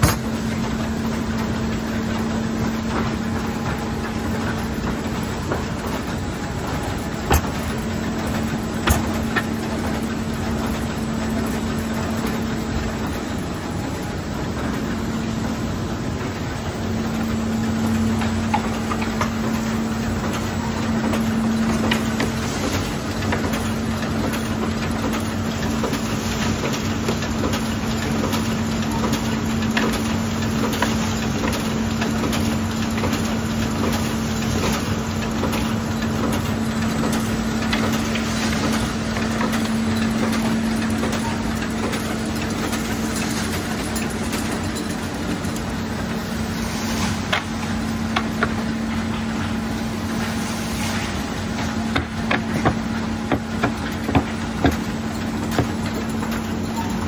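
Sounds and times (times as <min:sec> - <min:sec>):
machine motor hum: 0:00.0 - 0:57.0.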